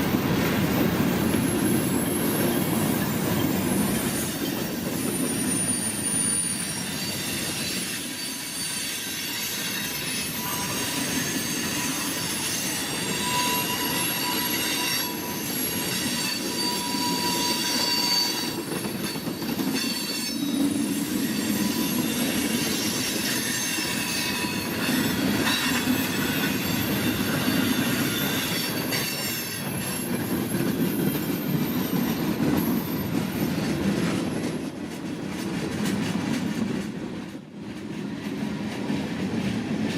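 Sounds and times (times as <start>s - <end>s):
high-pitched wheel squeals: 1.5s - 33.7s.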